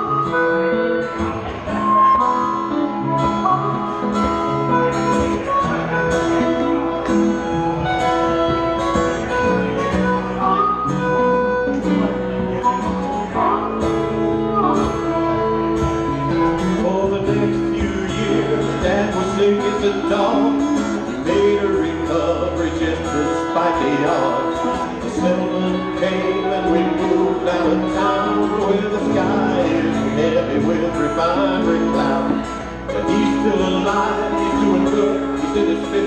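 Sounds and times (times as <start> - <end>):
live band playing country-rock: 0.0 - 36.0.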